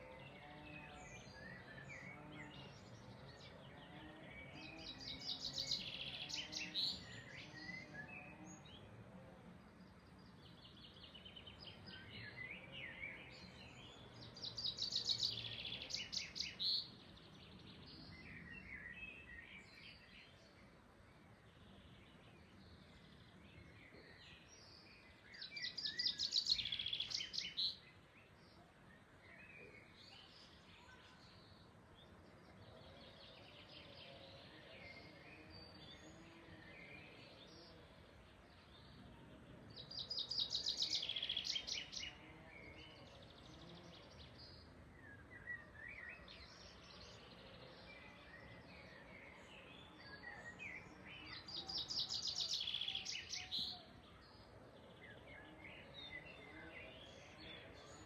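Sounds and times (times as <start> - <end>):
faint outdoor background: 0.0 - 58.0
songbirds singing: 0.0 - 58.0.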